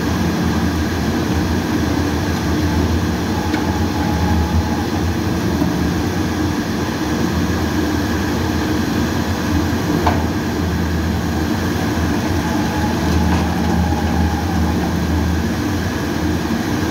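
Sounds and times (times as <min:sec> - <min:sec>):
shredder motor drone: 0:00.0 - 0:07.7, 0:10.2 - 0:16.9.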